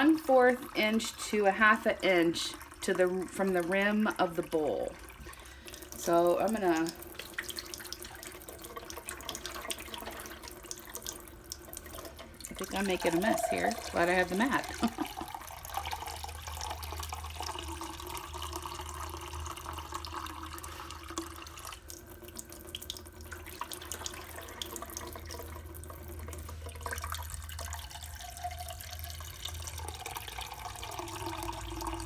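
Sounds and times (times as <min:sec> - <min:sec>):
water pouring into a bowl: 0:00.0 - 0:32.0.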